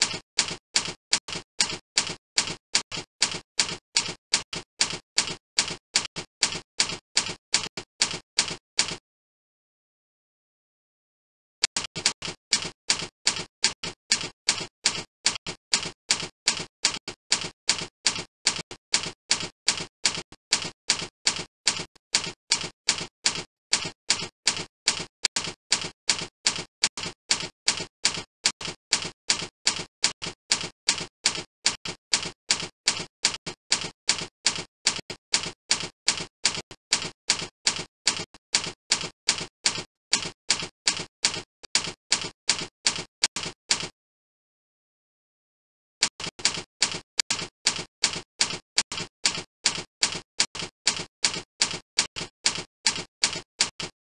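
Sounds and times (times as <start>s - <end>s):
typewriter typing clicks: 0.0s - 9.0s, 11.6s - 43.9s, 46.0s - 54.0s.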